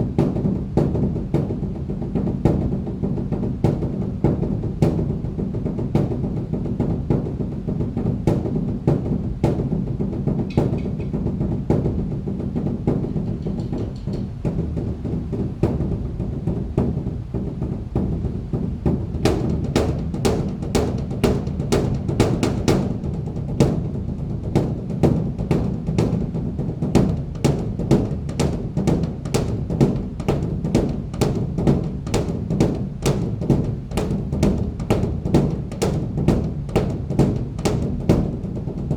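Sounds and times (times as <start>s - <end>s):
large temple drum beaten: 0.0s - 38.9s.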